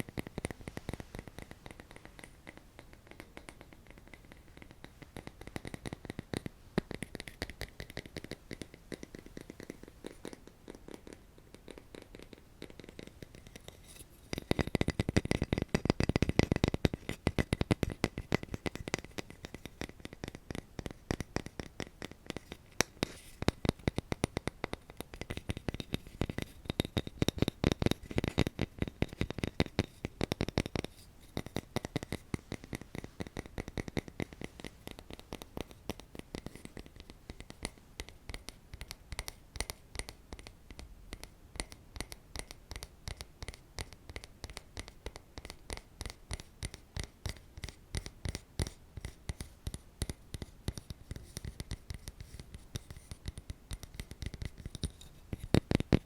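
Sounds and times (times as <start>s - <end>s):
tapping and scratching on object: 0.0s - 56.0s.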